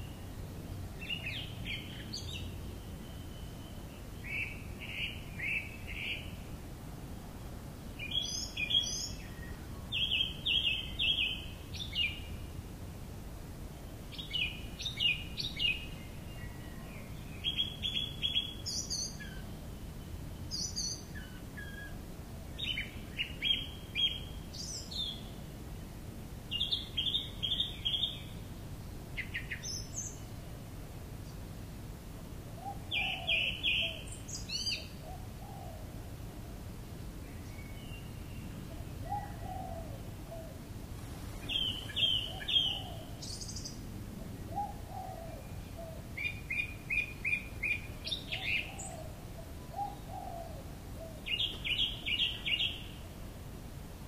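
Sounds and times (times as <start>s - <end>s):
small birds chirping: 0.0s - 6.5s, 8.0s - 12.6s, 13.7s - 25.7s, 26.4s - 30.5s, 32.6s - 36.0s, 37.0s - 53.2s.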